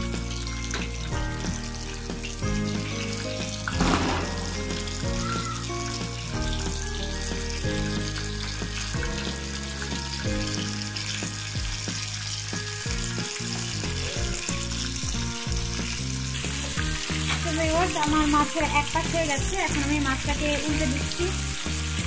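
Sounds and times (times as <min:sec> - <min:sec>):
background music with held notes: 0:00.0 - 0:22.0
fish sizzling in hot oil: 0:00.0 - 0:22.0.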